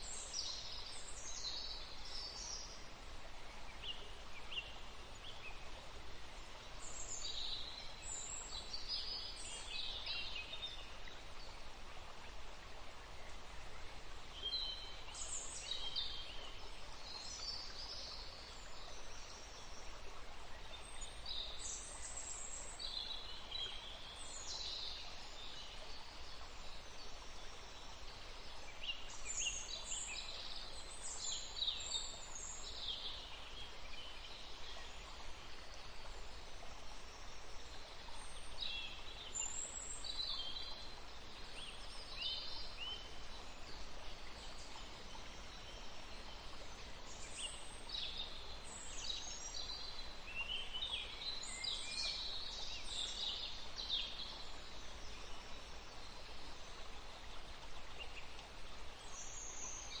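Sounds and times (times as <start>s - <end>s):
faint background hiss: 0.0s - 60.0s.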